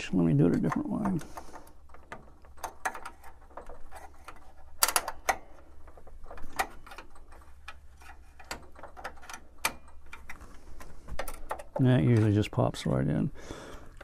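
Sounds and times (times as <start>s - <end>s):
clicks and knocks of hard parts: 0.0s - 12.4s.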